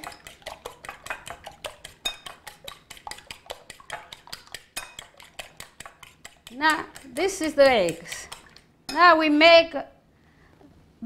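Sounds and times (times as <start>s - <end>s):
fork beating eggs in bowl: 0.0s - 9.5s.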